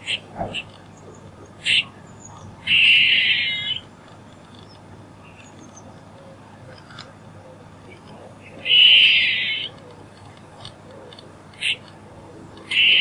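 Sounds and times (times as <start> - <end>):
squirrel calling: 0.0 - 6.2, 7.2 - 10.2, 10.8 - 13.0.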